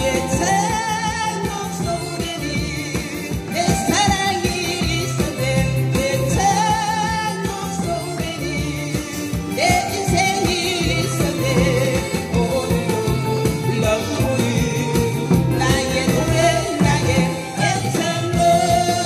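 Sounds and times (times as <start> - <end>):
backing music with bass and beat: 0.0 - 19.0
woman singing pop song: 0.0 - 19.0.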